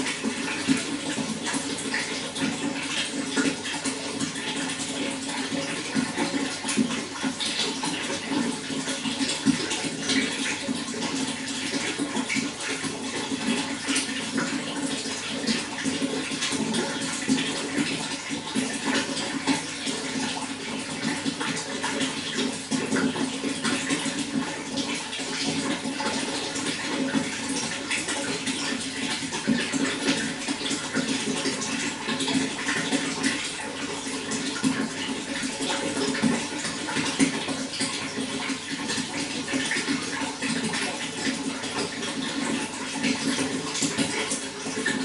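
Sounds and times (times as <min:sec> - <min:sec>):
running water splashing: 0:00.0 - 0:45.0.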